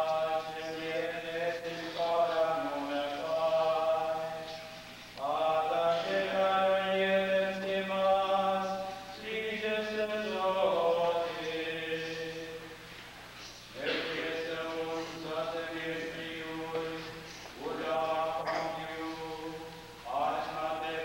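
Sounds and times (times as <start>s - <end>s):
slow church chant: 0.0s - 21.0s.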